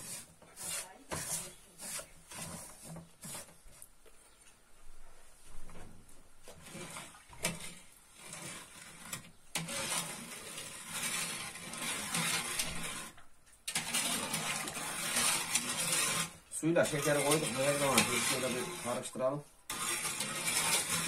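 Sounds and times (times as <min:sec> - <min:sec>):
spoon scraping pot: 0:00.0 - 0:03.8, 0:06.5 - 0:21.0.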